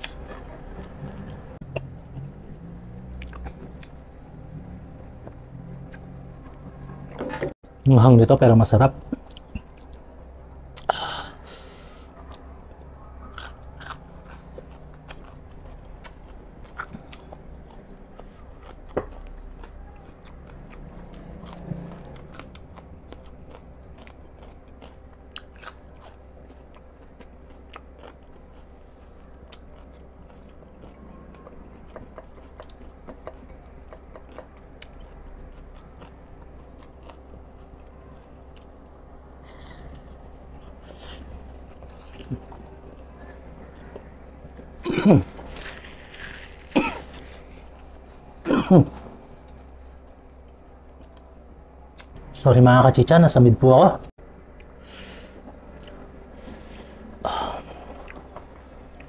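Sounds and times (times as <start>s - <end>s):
person chewing food: 0.0s - 4.5s, 9.1s - 11.0s, 11.6s - 52.2s, 54.4s - 59.0s
faint steady hum: 0.0s - 59.0s.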